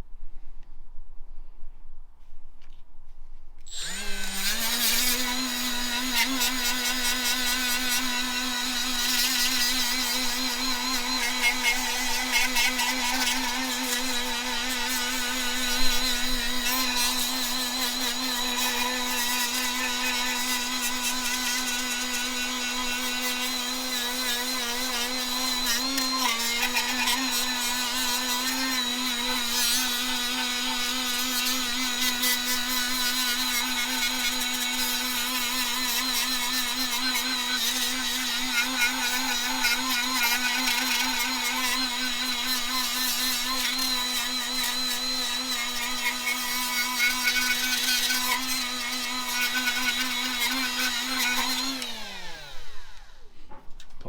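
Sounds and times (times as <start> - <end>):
handheld rotary grinder running: 3.7 - 53.3.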